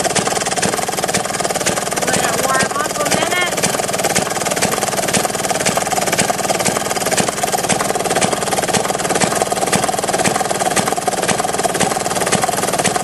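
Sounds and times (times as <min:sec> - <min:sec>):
two-stroke engine idling: 0:00.0 - 0:13.0.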